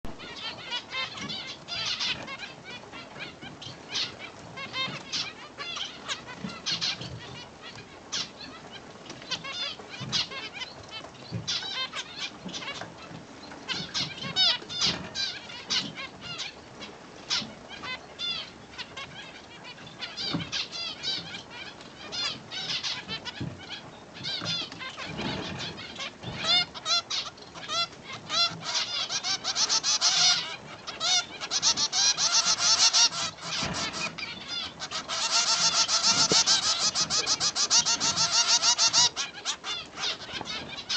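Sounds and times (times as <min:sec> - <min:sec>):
finches chirping: 0:00.1 - 0:40.9.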